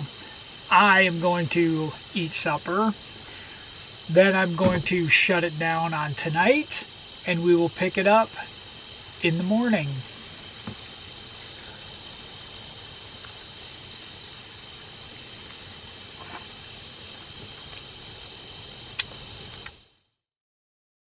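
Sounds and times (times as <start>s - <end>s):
crickets chirping: 0.0s - 20.2s.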